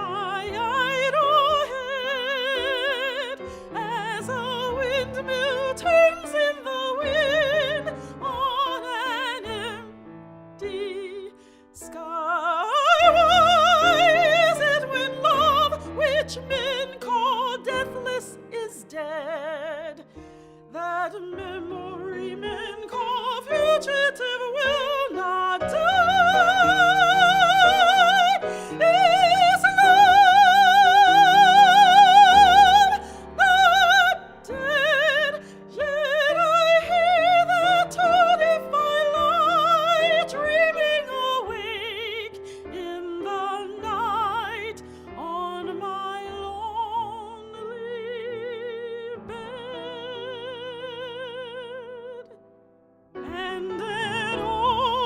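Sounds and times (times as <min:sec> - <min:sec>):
piano accompaniment: 0:00.0 - 0:55.0
soprano singing: 0:00.0 - 0:55.0.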